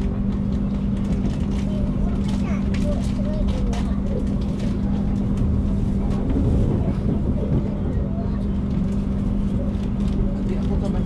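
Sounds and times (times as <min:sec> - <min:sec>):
train running on track: 0:00.0 - 0:11.0.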